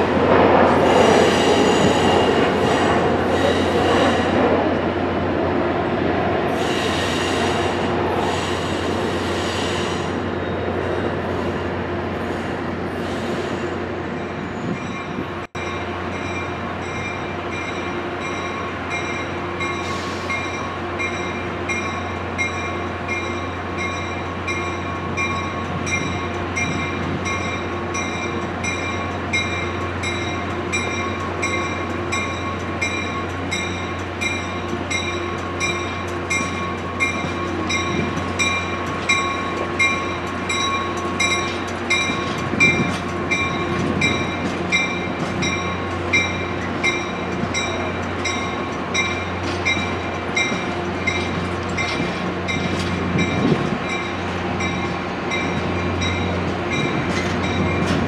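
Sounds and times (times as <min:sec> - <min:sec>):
train rolling past: 0:00.0 - 0:58.0.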